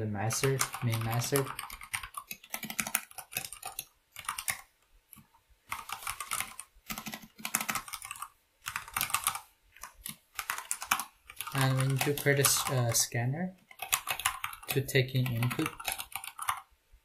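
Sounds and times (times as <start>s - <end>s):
keyboard typing: 0.3s - 13.0s, 13.6s - 16.7s.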